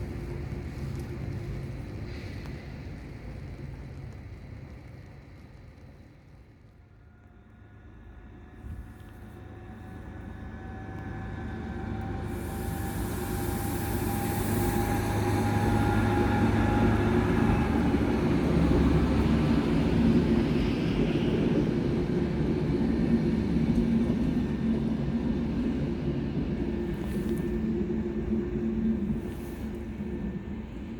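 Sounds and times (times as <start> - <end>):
train passing: 0.0 - 30.9.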